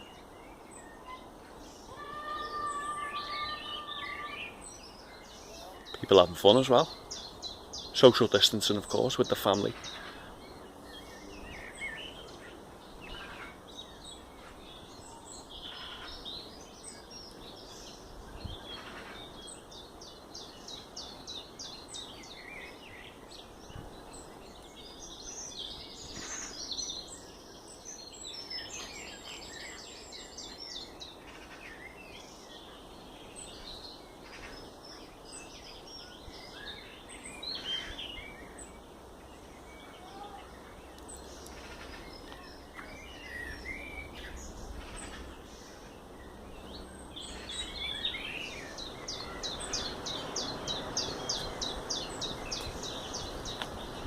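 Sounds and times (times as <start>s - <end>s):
songbirds chirping and trilling: 0.0s - 54.0s
steady background noise: 0.0s - 54.0s.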